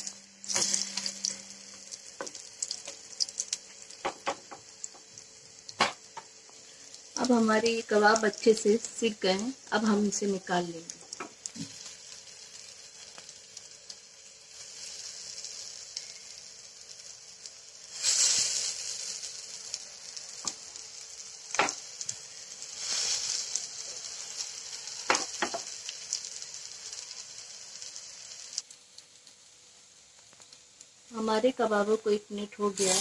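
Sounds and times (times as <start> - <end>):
kebabs sizzling in hot oil: 0.0 - 33.0.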